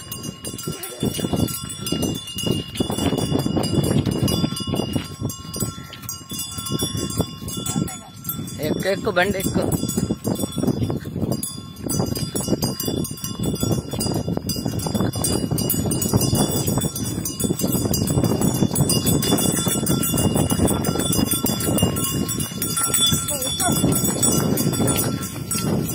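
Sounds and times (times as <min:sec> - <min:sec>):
bells jingling: 0:00.0 - 0:25.9
hooves clopping on pavement: 0:00.0 - 0:25.9.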